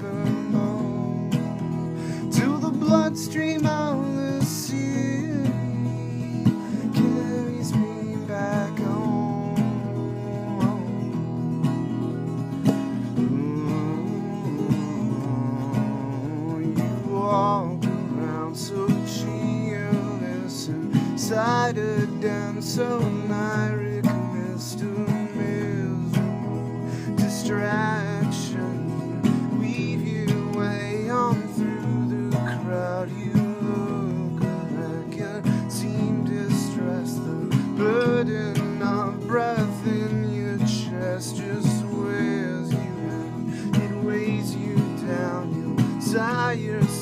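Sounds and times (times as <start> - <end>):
man singing: 0.0 - 12.3, 12.9 - 47.0
acoustic guitar strumming: 0.0 - 47.0.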